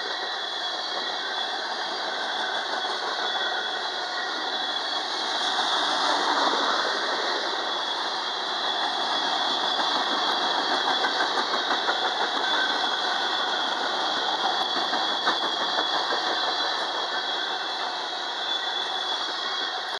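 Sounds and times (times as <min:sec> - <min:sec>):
freight train rolling past: 0:00.0 - 0:19.9.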